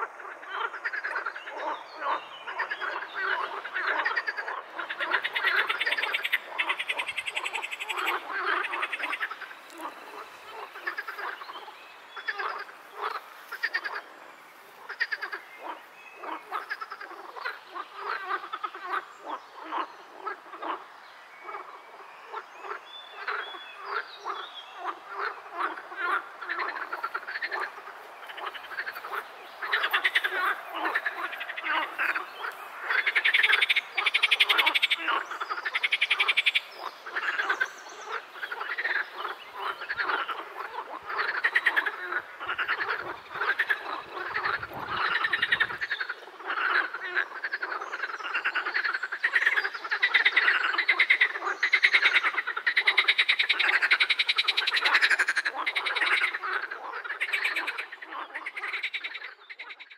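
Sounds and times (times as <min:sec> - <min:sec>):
chorus of frogs croaking: 0:00.0 - 0:59.9.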